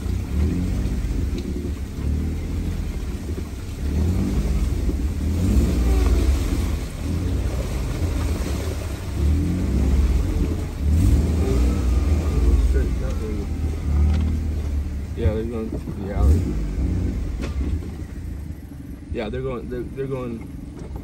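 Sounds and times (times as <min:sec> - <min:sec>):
off-road vehicle engine rumble: 0:00.0 - 0:21.0.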